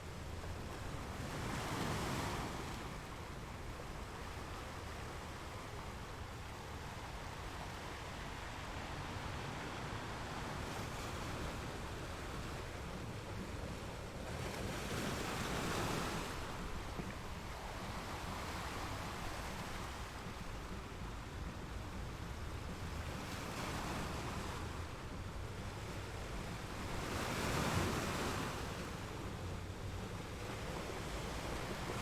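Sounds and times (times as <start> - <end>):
sea waves breaking: 0.0 - 32.0.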